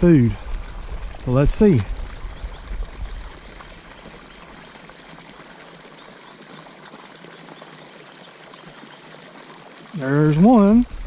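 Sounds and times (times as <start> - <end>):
water pouring into a pond: 0.0 - 11.0.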